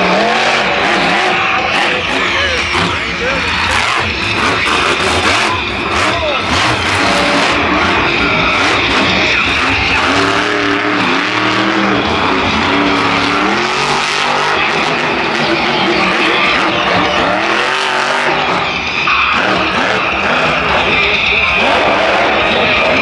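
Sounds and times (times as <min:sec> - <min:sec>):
truck engine revving hard: 0:00.0 - 0:23.0.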